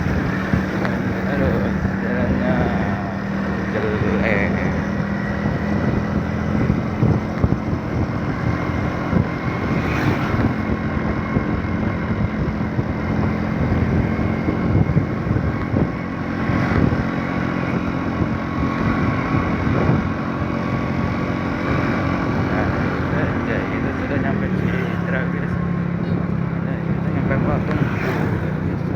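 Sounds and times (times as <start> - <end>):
road and wind noise: 0.0 - 28.9
vehicle engine running: 0.0 - 28.9.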